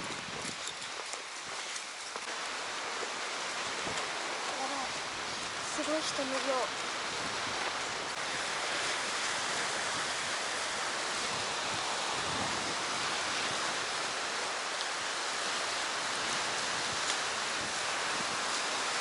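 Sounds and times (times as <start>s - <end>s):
sea surf washing on shore: 0.0s - 19.0s.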